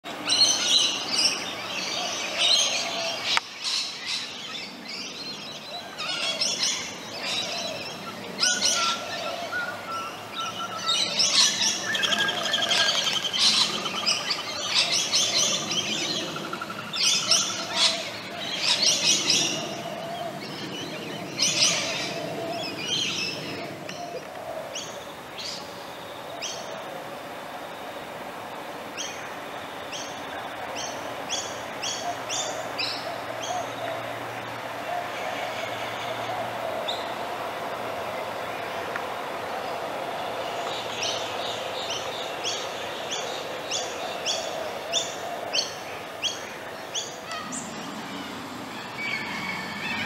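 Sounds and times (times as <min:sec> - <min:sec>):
birds chirping and twittering: 0:00.1 - 0:27.8, 0:28.7 - 0:50.0.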